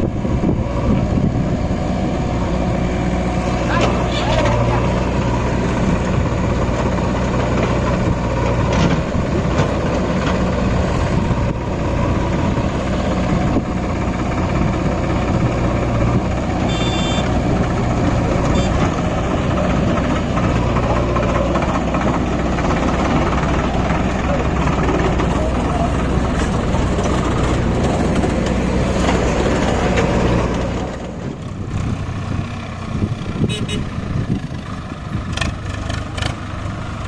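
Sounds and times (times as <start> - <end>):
tractor diesel engine droning: 0.0 - 37.0.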